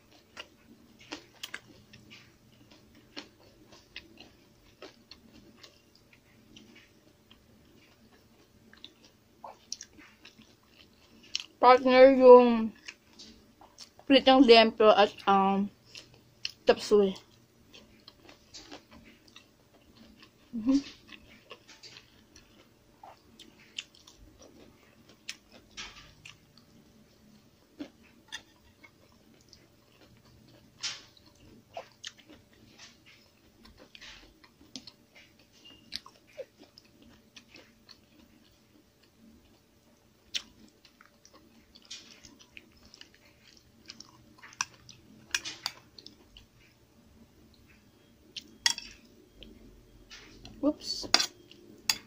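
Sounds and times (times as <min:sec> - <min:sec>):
person chewing: 0:00.0 - 0:11.6, 0:12.8 - 0:14.1, 0:15.8 - 0:46.8, 0:47.5 - 0:52.0.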